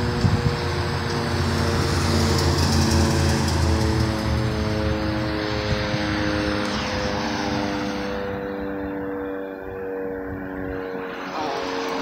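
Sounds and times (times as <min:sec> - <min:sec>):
warning siren wailing: 0:00.0 - 0:12.0.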